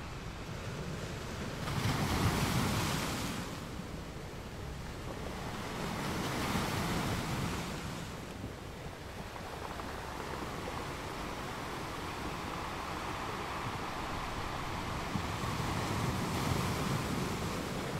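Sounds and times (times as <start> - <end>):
wind: 0.0 - 17.9
small waves washing in shallow water: 0.2 - 17.9.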